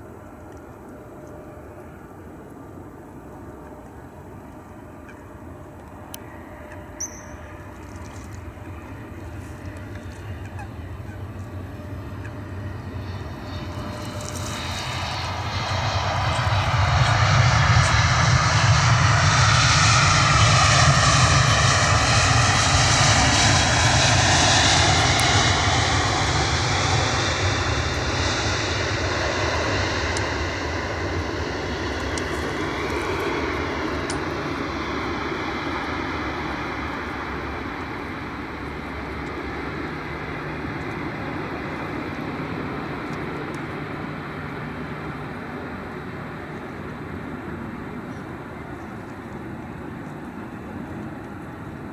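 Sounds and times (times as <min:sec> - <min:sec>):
jet engine whine sliding in pitch: 0:00.0 - 0:51.9
jet engines rushing: 0:00.0 - 0:51.9.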